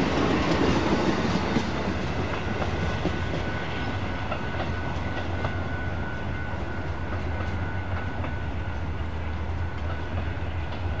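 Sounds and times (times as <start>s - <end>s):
rail clicks: 0.0s - 11.0s
train rumbling on rails: 0.0s - 11.0s.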